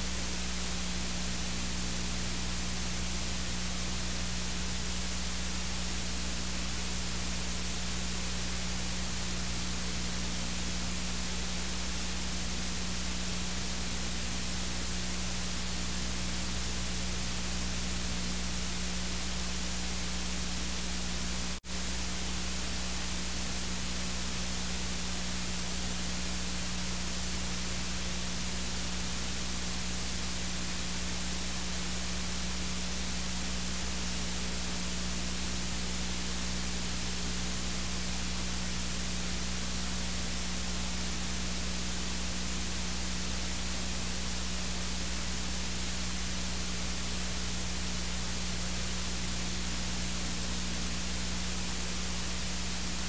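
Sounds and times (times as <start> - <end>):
hiss and static: 0.0 - 53.0.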